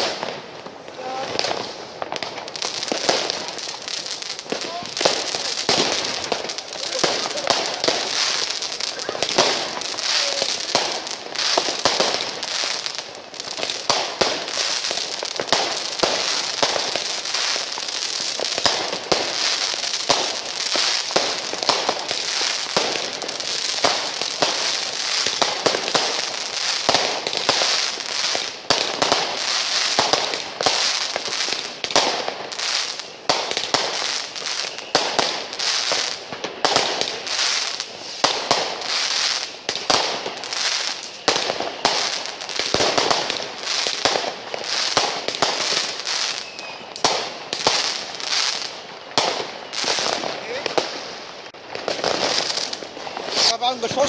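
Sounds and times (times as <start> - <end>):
firecrackers crackling: 0.0 - 54.0
fireworks bangs: 0.0 - 54.0.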